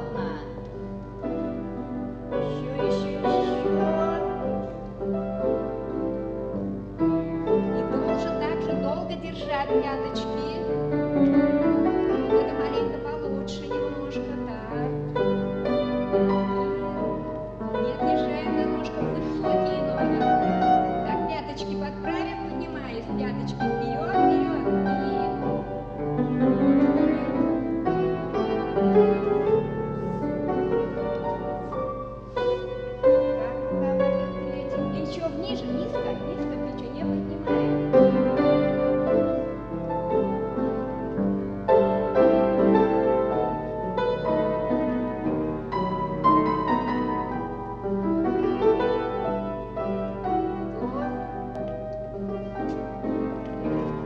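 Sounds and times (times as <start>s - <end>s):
solo classical piano: 0.0s - 54.0s.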